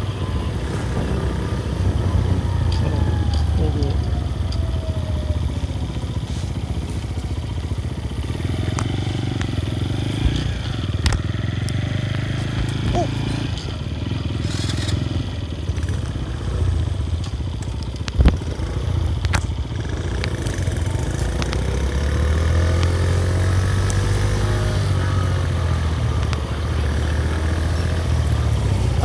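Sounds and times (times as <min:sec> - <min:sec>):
road and wind noise: 0:00.0 - 0:29.0
small motorcycle engine running: 0:00.0 - 0:29.0.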